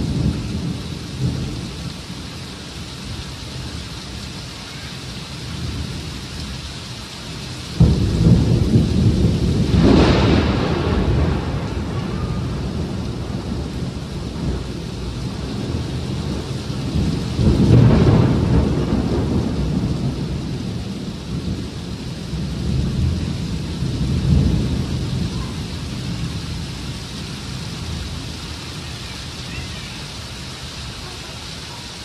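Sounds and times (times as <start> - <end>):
heavy rain pouring: 0.0 - 32.0
thunder rumbling: 0.0 - 32.0.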